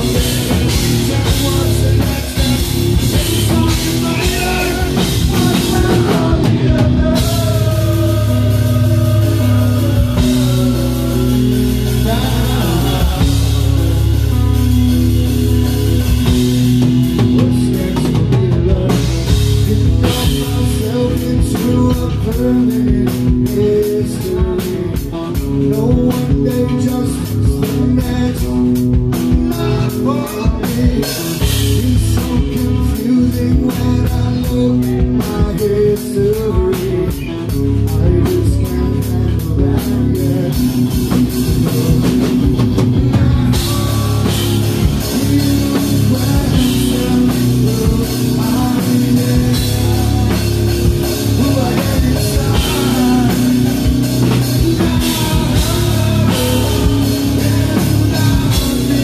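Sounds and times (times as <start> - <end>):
bass guitar: 0.0 - 59.0
drums ticking a beat: 0.0 - 59.0
metal band playing live: 0.0 - 59.0
person singing into a microphone: 0.0 - 59.0.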